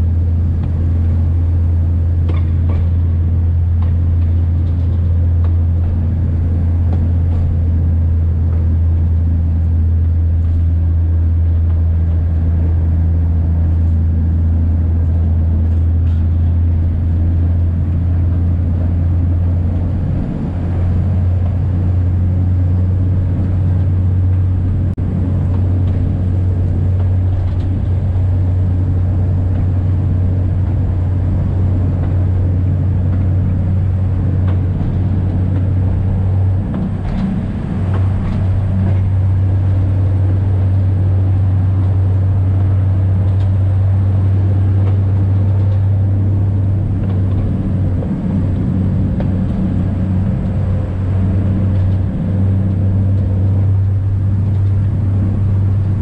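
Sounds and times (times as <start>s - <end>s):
diesel engine droning: 0.0s - 56.0s
train wheels on track: 0.0s - 56.0s.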